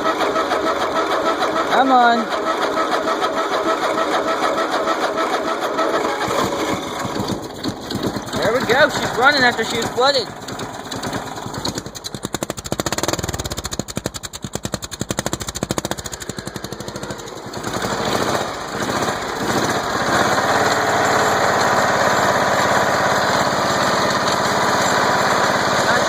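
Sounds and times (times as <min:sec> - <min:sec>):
riding mower engine chugging: 0:00.0 - 0:26.0.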